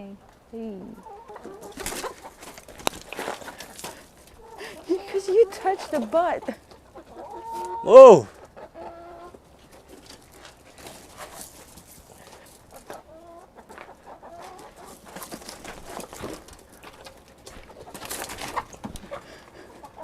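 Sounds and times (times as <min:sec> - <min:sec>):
hens clucking: 0:00.7 - 0:20.0.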